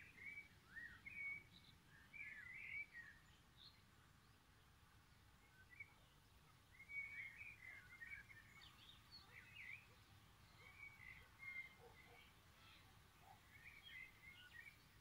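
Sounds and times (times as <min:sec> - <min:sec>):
faint birdsong chirping: 0:00.0 - 0:15.0.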